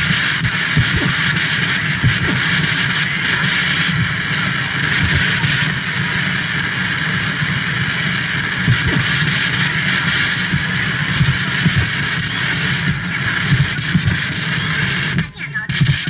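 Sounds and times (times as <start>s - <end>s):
vinyl record surface noise: 0.0s - 16.0s.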